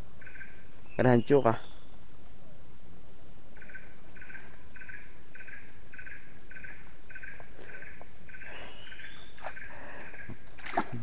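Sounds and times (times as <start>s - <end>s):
high-pitched insect hum: 0.0s - 11.0s.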